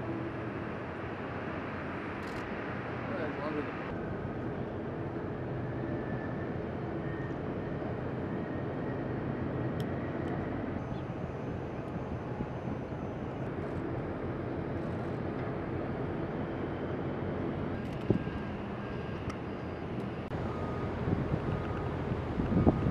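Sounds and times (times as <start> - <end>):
outdoor background rumble and hiss: 0.0 - 22.9.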